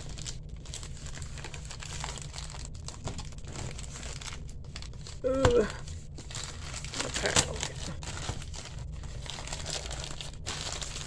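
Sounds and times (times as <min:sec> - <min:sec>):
plastic mailer bag crinkling: 0:00.0 - 0:11.0.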